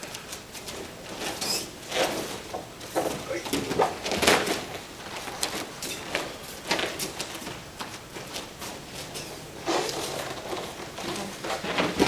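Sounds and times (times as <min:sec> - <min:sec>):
bare feet on foam mat: 0:00.0 - 0:12.0.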